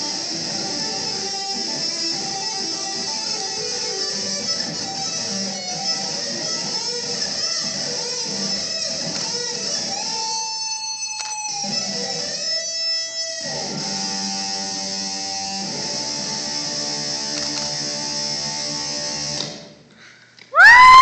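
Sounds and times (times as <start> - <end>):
electric guitar through amplifier: 0.0 - 19.8.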